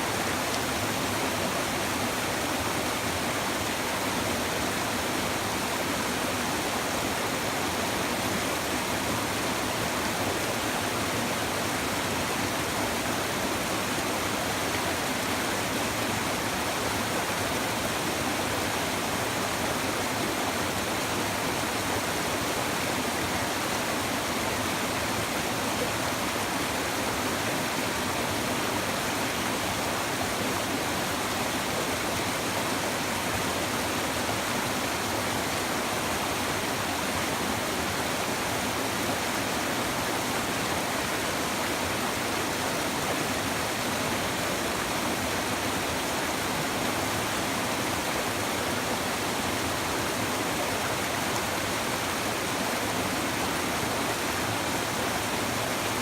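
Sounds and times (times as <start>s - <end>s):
stream babbling over stones: 0.1s - 56.0s.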